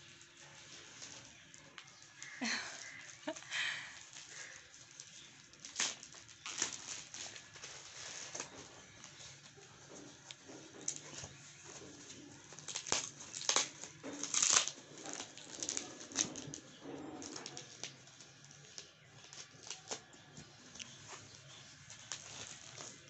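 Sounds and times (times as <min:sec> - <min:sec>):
foam packing wrap crinkling: 0:00.0 - 0:23.0.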